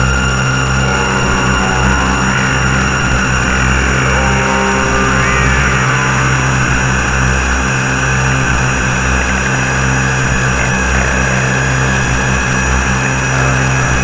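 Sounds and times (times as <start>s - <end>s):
low synthesizer drone: 0.0s - 14.0s.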